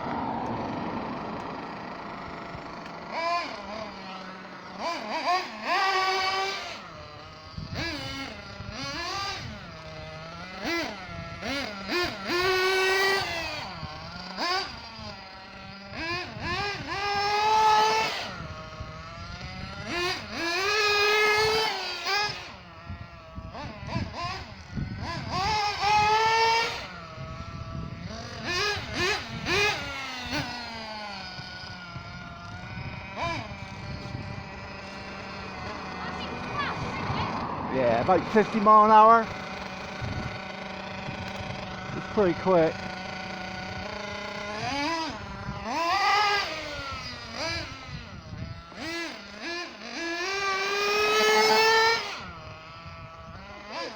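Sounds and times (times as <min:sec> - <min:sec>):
small engine revving: 0:00.0 - 0:53.9.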